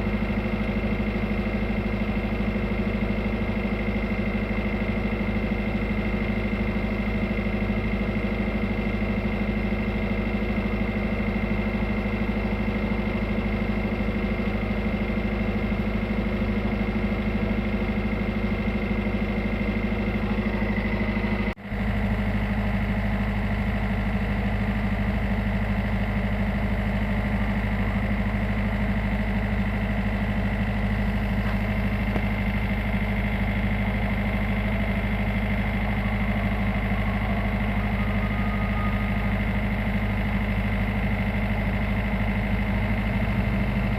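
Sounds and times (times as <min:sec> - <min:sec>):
boat diesel engine running: 0:00.0 - 0:43.9.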